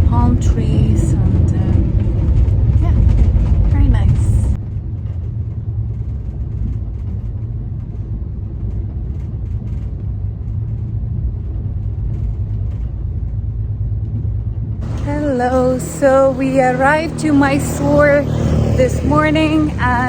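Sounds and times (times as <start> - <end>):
moving train rumble: 0.0 - 20.0.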